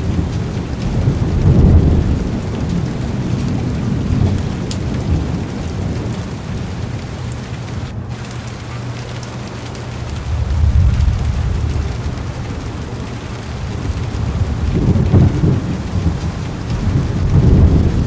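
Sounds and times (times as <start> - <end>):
heavy rain on car windows: 0.0 - 18.0
rolling thunder: 0.0 - 18.0.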